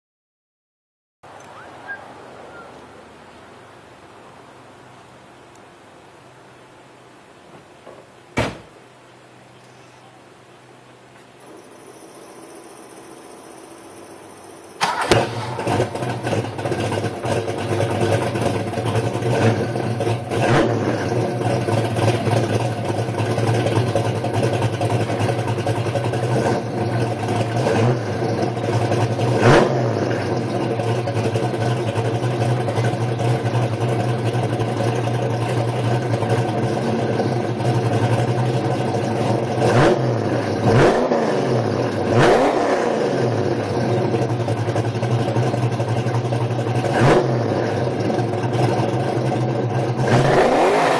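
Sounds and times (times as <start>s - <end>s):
car engine idling and revving: 1.3s - 5.6s, 10.7s - 50.9s.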